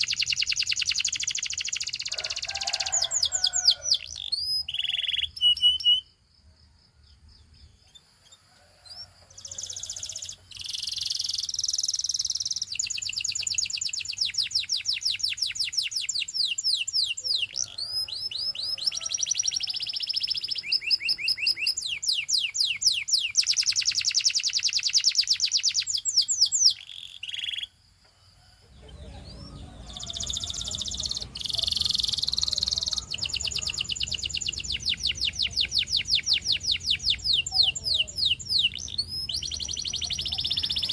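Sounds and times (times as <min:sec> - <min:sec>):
canary singing trills: 0:00.0 - 0:06.2, 0:07.2 - 0:27.8, 0:28.7 - 0:40.9.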